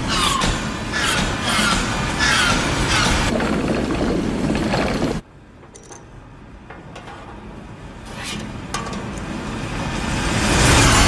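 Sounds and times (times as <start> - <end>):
mechanical ambience: 0.0 - 11.0
noisy machinery rumbling: 0.0 - 11.0.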